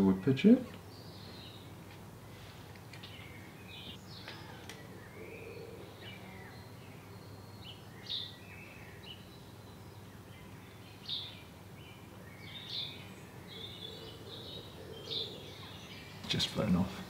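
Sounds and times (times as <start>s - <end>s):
low steady background hum: 0.0s - 17.0s
small birds chirping faintly: 0.0s - 17.0s.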